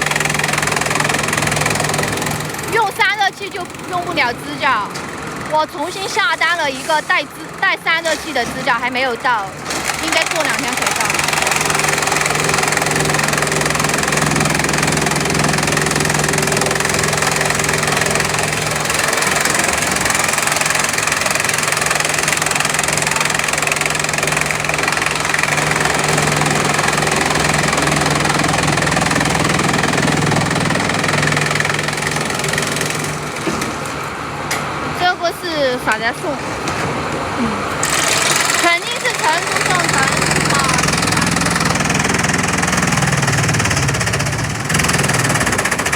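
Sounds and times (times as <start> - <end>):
chipping machinery running: 0.0 - 45.9.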